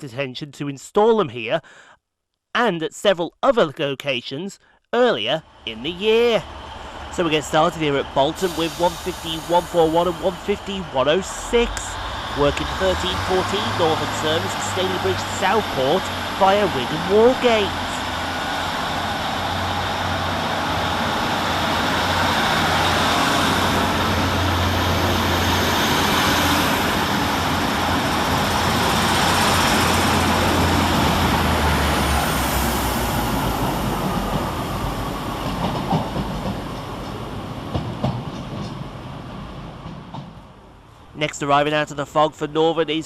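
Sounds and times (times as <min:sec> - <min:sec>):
diesel train engine: 0:05.4 - 0:43.0
train wheels on rails: 0:05.8 - 0:41.8.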